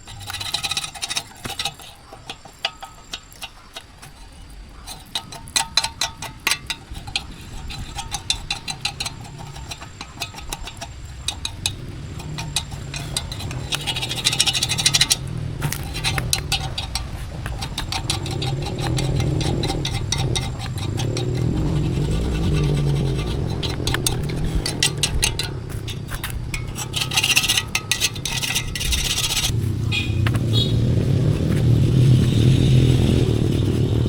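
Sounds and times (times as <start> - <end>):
metallic rattling and clicking: 0.0 - 34.0
engine running: 6.7 - 34.0.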